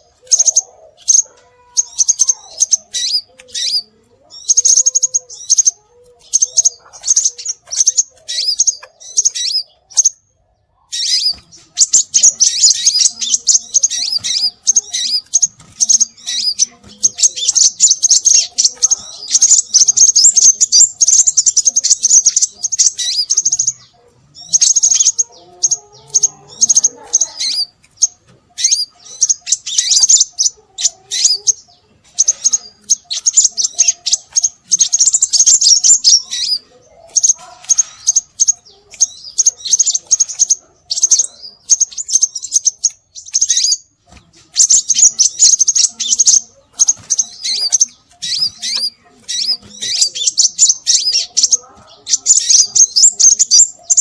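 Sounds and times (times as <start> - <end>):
bird chirping rapidly: 0.0 - 54.0.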